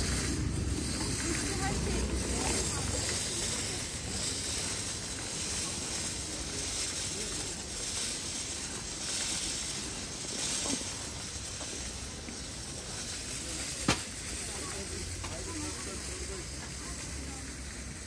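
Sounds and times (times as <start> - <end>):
street market ambience: 0.0 - 18.0.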